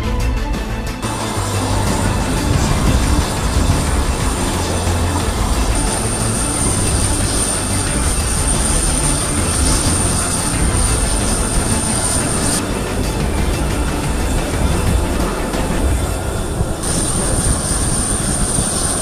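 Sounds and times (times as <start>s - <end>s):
high steady turbine whine: 0.0s - 19.0s
jet turbine low rumble: 0.0s - 19.0s.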